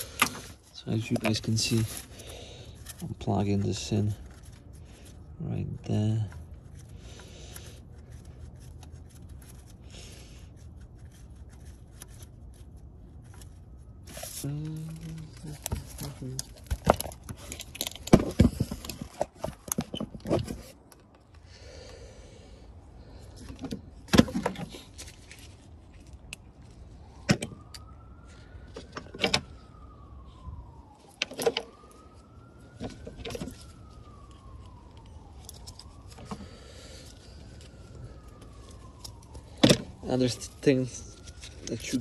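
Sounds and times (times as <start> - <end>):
siren wailing: 0.0 - 42.0.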